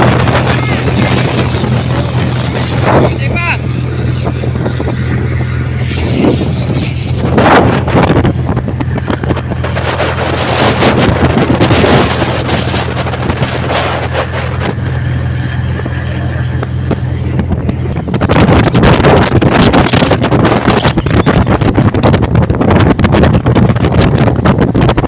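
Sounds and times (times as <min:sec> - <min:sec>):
rushing water: 0:00.0 - 0:24.6
outboard engine running: 0:00.0 - 0:25.0
wind buffeting microphone: 0:00.0 - 0:25.0.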